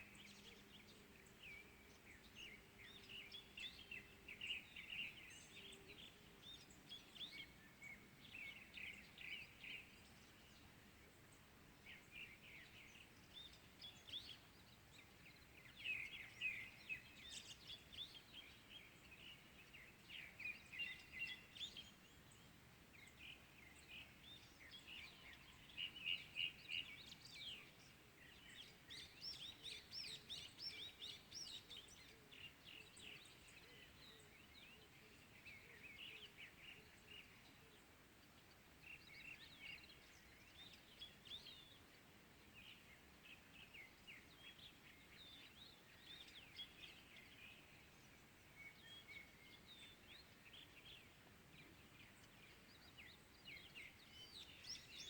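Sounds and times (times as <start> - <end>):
small birds chirping and singing: 0.0 - 55.0.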